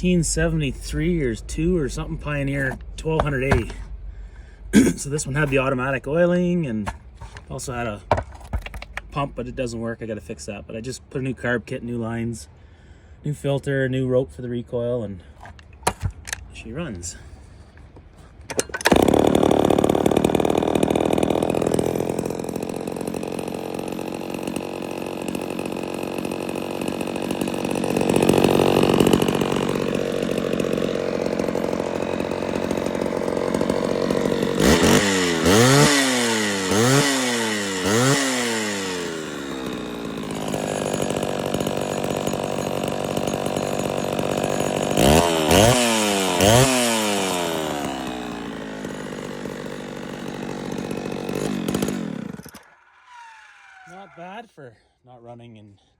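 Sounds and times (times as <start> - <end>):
chainsaw idling and revving: 0.0 - 9.4, 18.6 - 54.4.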